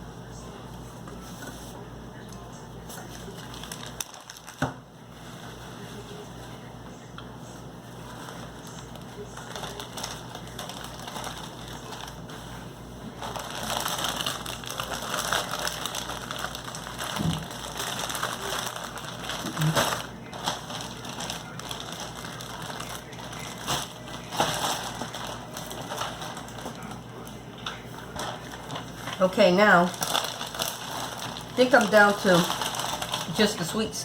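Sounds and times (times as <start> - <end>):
plastic wrappers crinkling: 3.0 - 6.2, 8.0 - 34.0.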